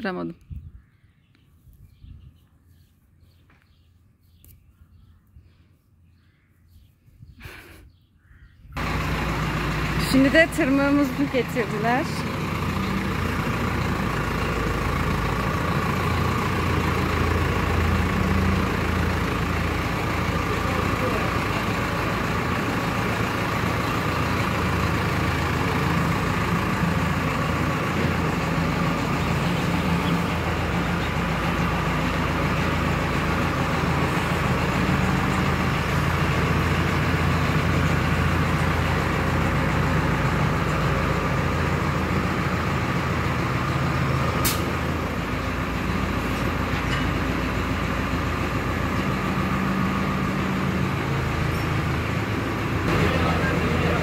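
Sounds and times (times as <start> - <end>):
tractor engine running: 8.8 - 54.0.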